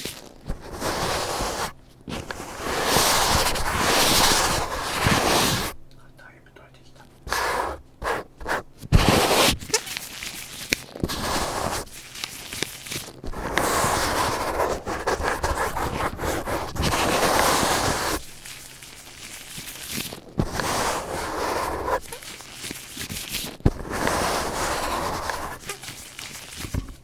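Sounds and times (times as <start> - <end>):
scratchy rustling noise: 0.0 - 5.8, 7.1 - 27.0.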